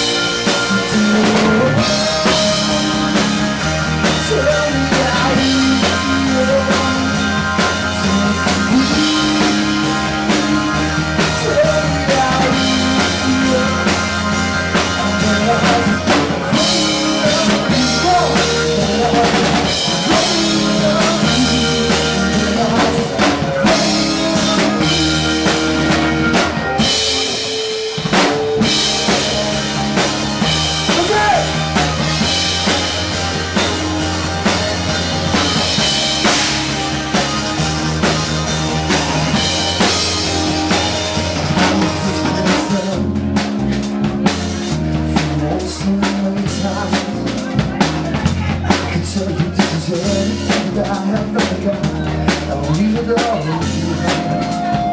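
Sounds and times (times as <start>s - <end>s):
band music with drum kit: 0.0s - 54.9s
sustained bass line: 0.0s - 54.9s.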